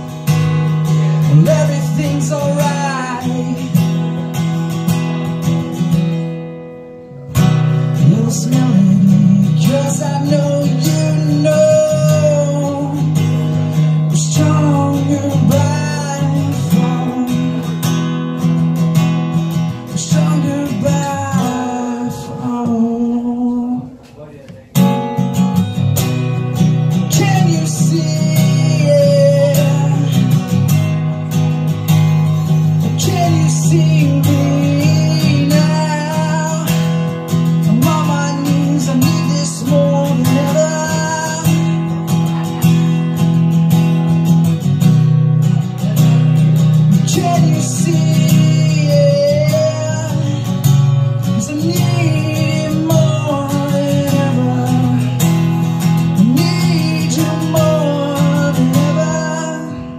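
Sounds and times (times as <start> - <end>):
man singing: 0.0 - 4.8, 7.7 - 18.6, 19.6 - 24.2, 26.8 - 31.2, 31.9 - 42.6, 45.5 - 59.9
acoustic guitar strumming: 0.0 - 59.9.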